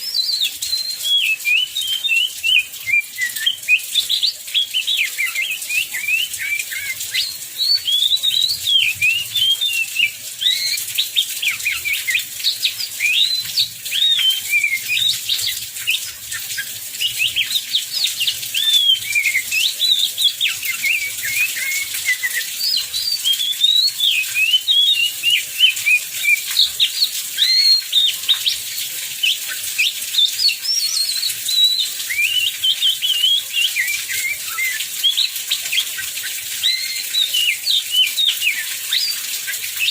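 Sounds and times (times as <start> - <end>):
bird singing varied whistles: 0.0 - 28.6, 29.2 - 39.9.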